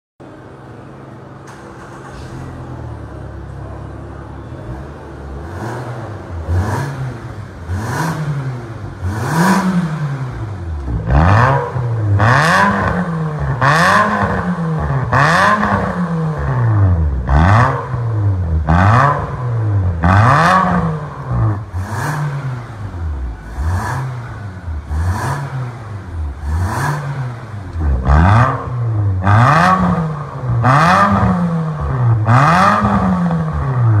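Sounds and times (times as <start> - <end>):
car engine idling: 0.2 - 34.0
car engine revving: 4.6 - 34.0.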